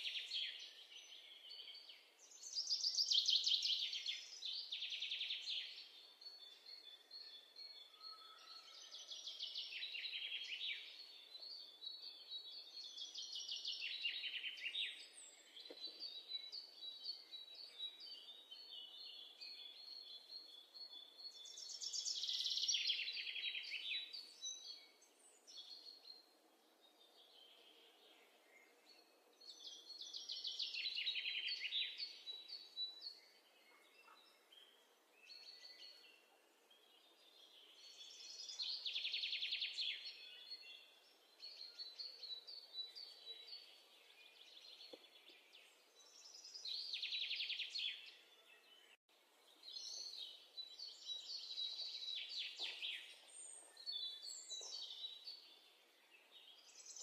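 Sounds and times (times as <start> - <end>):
bird chirps: 0.0 - 49.0, 49.6 - 57.0.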